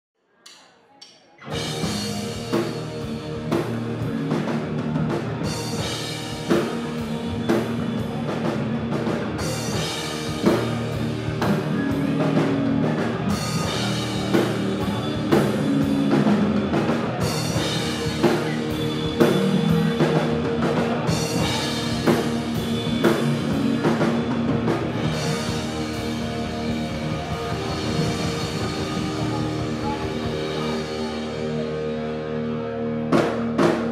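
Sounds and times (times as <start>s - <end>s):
bass guitar: 1.4s - 33.9s
drum kit: 1.4s - 33.9s
electric guitar: 1.4s - 33.9s.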